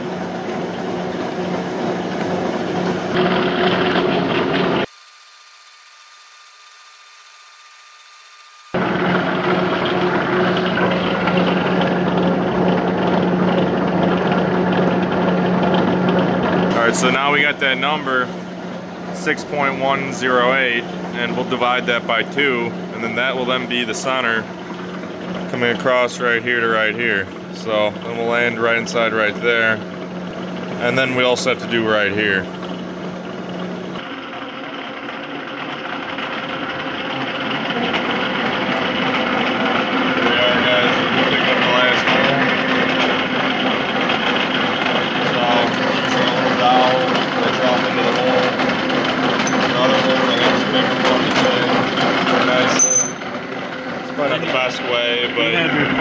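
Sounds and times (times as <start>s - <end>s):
milling machine humming: 0.0s - 56.0s.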